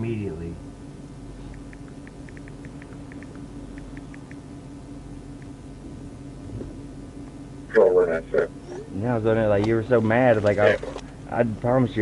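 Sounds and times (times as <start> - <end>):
vehicle idling hum: 0.0 - 12.0.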